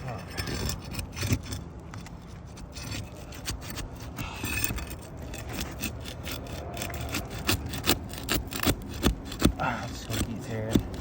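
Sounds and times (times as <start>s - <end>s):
pry bar scraping shingles: 0.0s - 11.0s
shingles crackling and clicking: 0.0s - 11.0s.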